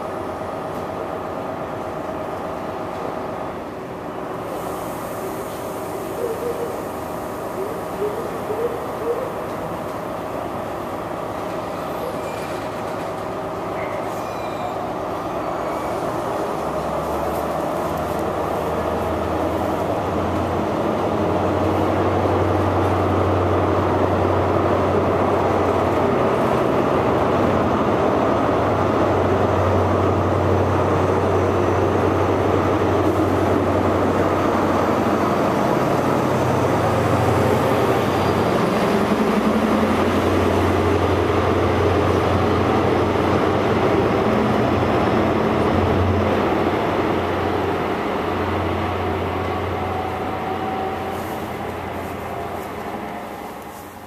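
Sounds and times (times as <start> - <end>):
train coaches rumbling over rails: 0.0 - 54.0.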